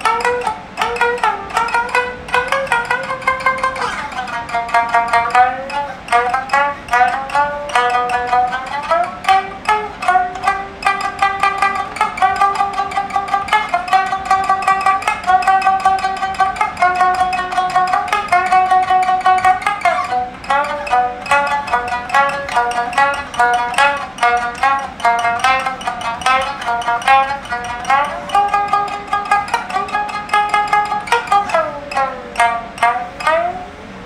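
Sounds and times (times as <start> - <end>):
shamisen music: 0.0 - 34.0.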